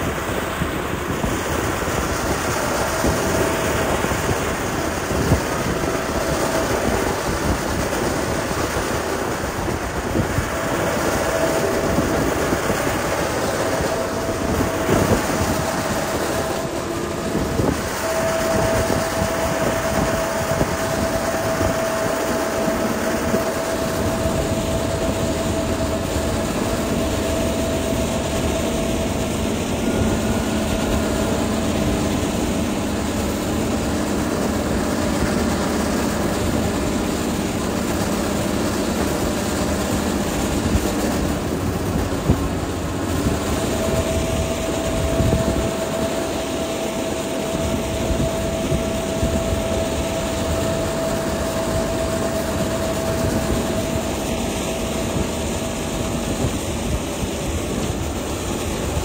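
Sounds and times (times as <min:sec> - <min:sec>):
heavy diesel machinery whine: 0:00.0 - 0:59.0.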